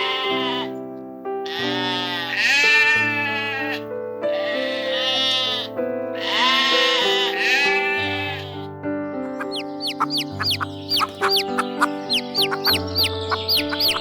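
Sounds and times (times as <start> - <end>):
farm animal bleating: 0.0 - 8.7, 9.3 - 14.0
background music with held notes: 0.0 - 14.0.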